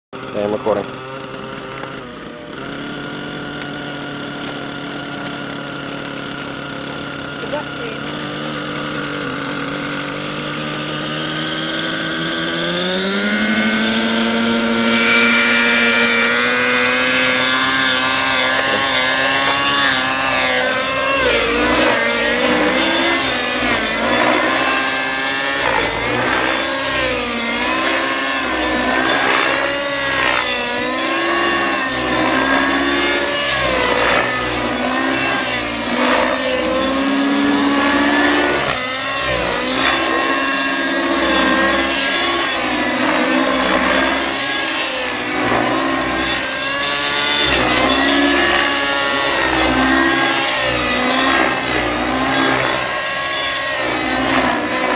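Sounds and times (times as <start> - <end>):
model helicopter engine running: 0.2 - 54.9.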